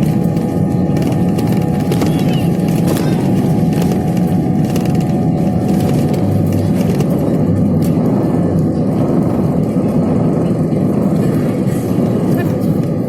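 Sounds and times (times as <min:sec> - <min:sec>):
airliner engine and airflow rumble: 0:00.0 - 0:13.0
steady engine tones: 0:00.0 - 0:13.0.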